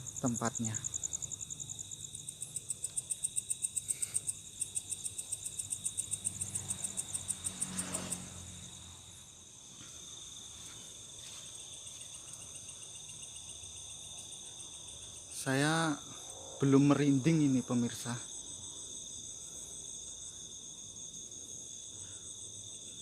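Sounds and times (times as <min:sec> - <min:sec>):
high-pitched insect trills: 0:00.0 - 0:23.0
insects pulsed chirping: 0:00.0 - 0:23.0.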